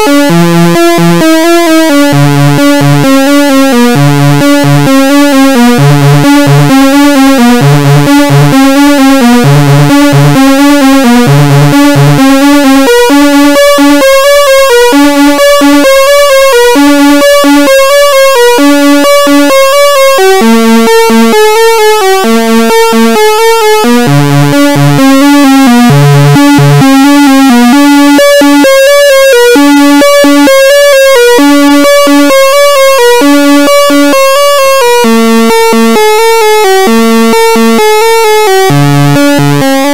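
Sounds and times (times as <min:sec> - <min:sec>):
synthesizer sequenced pattern: 0:00.0 - 0:39.9.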